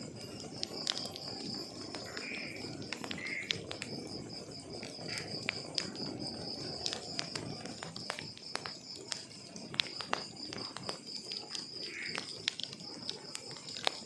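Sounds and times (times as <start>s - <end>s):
rushing of flames: 0.0s - 14.0s
wood logs crackling: 0.0s - 14.0s.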